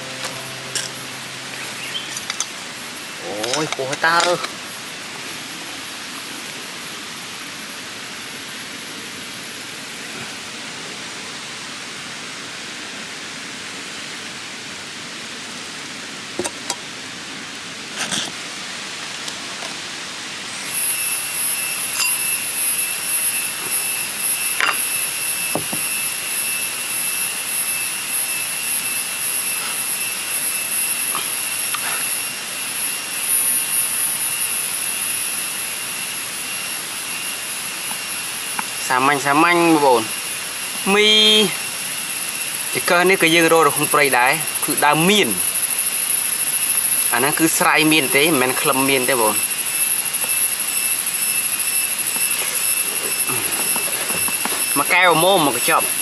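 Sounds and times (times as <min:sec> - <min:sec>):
forest insects droning: 0:00.0 - 0:56.0.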